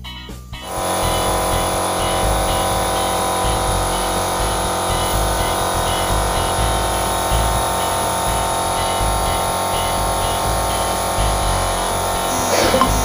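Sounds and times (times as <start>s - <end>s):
steady electric buzz: 0.6s - 13.0s
low hum: 0.7s - 13.0s.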